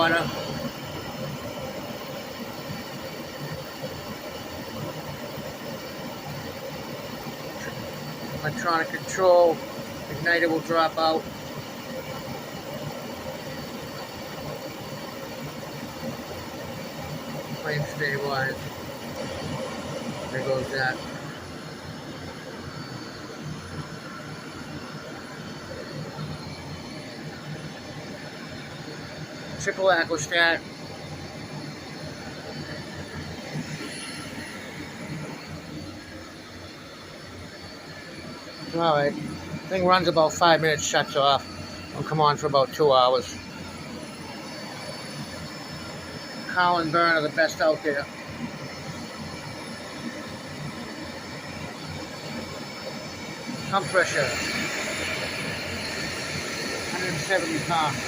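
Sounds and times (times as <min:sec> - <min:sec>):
oil burner rumble and hiss: 0:00.0 - 0:58.0.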